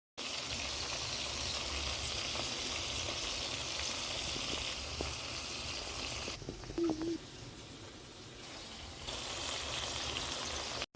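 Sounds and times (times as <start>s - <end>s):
chicken sizzling in hot oil: 0.2s - 10.9s.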